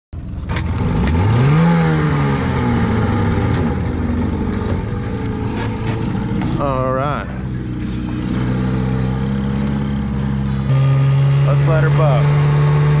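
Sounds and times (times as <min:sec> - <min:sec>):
outboard motor revving: 0:00.3 - 0:13.0.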